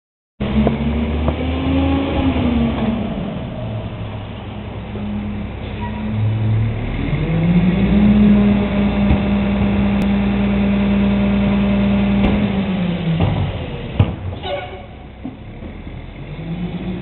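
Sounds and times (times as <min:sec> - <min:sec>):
truck diesel engine revving: 0:00.4 - 0:17.0.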